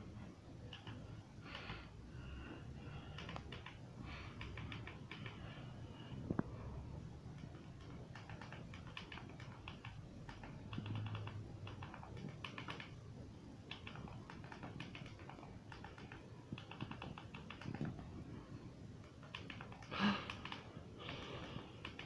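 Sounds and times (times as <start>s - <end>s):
rapid small clicks: 0.6s - 5.7s, 7.2s - 13.0s, 13.6s - 18.2s, 19.0s - 22.0s.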